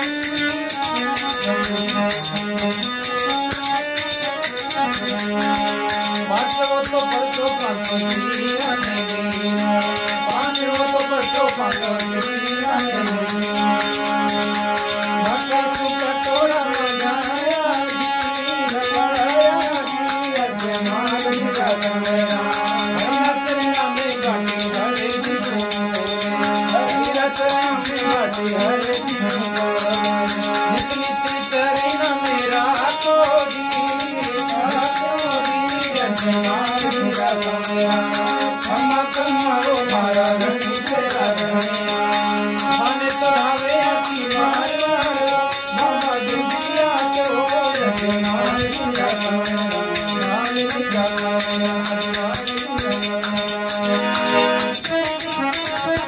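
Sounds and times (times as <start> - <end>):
harmonium melody: 0.0 - 56.0
man singing: 0.0 - 56.0.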